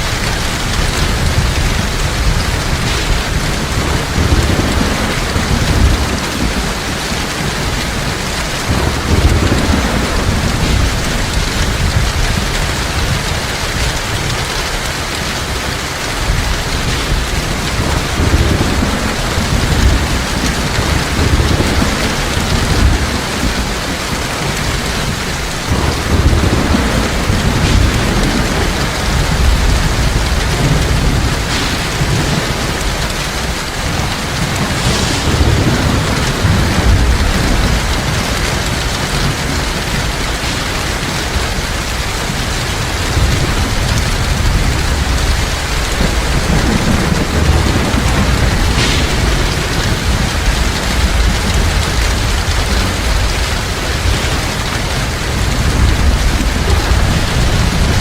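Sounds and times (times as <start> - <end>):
heavy rain pouring: 0.0 - 58.0
thunder rumbling: 0.0 - 58.0.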